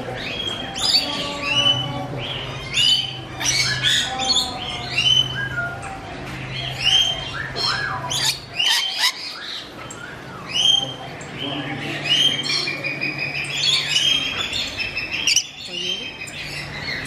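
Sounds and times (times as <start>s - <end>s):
parrots squawking and chirping: 0.0s - 17.0s.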